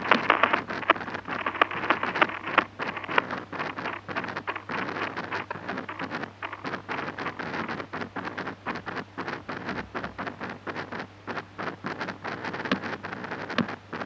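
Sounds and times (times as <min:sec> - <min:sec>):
faint low hum: 0:00.0 - 0:14.0
pupa clicking and crackling: 0:00.0 - 0:14.0.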